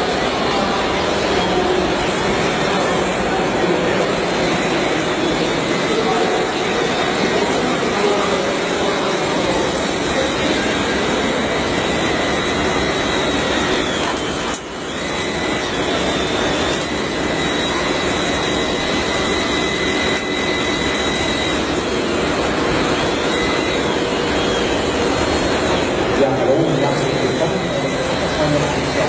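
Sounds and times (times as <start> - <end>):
machine running with high whine: 0.0 - 29.0.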